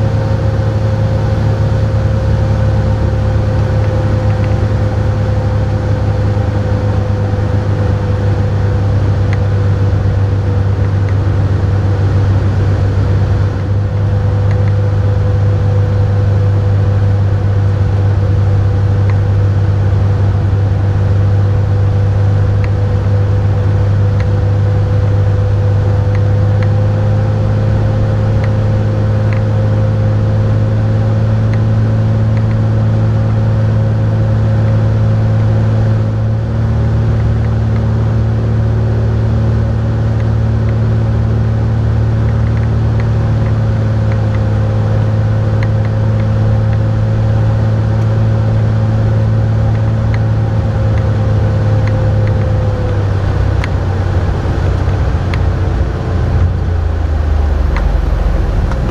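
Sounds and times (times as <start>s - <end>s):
light aircraft engine droning: 0.0s - 58.9s.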